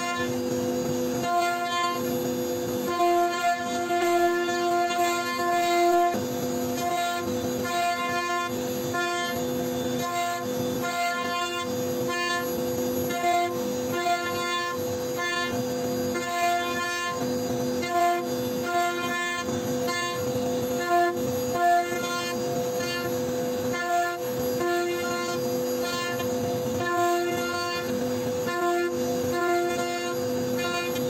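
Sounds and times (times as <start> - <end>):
router spindle whining: 0.0 - 31.0.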